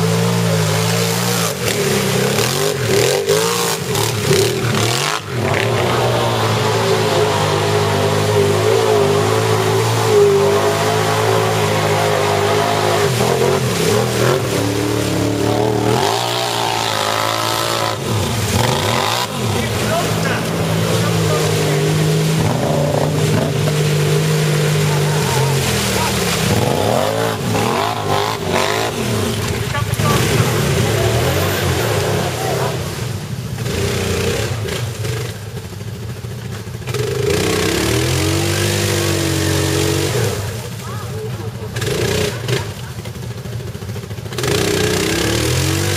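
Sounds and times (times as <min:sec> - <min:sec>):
atv engines revving: 0:00.0 - 0:45.9.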